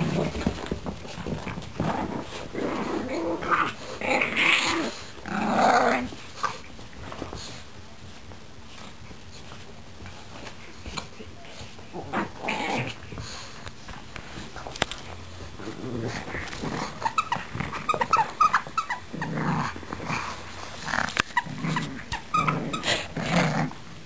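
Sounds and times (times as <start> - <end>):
dogs growling in play: 0.0 - 7.6, 10.9 - 24.0.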